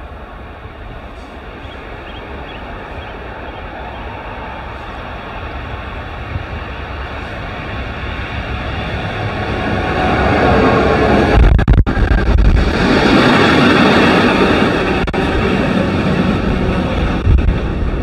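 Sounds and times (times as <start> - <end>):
diesel locomotive hauling freight train: 0.0 - 18.0.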